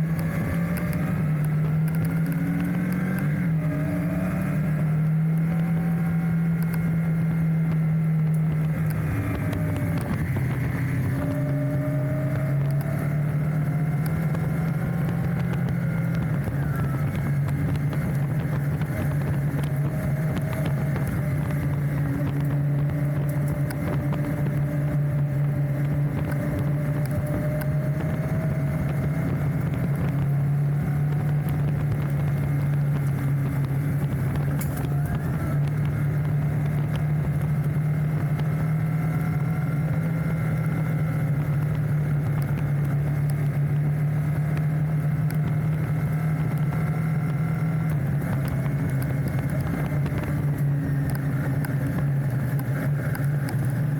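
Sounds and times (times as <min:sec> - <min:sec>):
motorcycle engine droning: 0:00.0 - 0:53.9.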